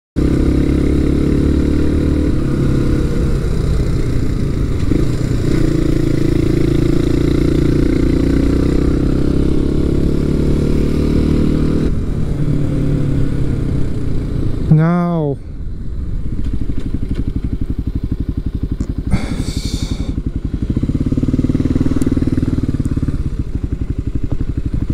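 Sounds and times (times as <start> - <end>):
motorcycle engine running: 0.2 - 24.9.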